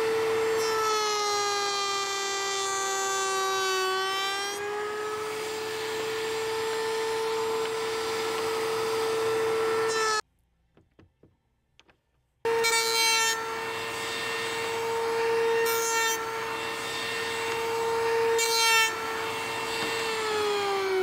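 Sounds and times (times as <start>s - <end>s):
router bit cutting wood: 0.0s - 10.2s, 12.5s - 21.0s
router whining: 0.0s - 10.2s, 10.8s - 21.0s.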